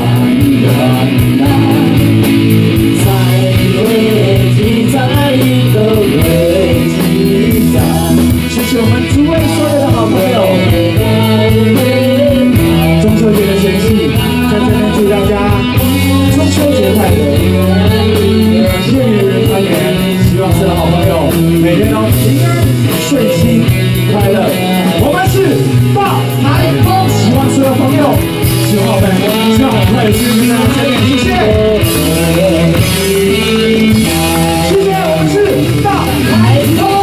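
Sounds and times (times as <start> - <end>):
live rock band playing: 0.0 - 37.0
sustained bass notes: 0.0 - 37.0.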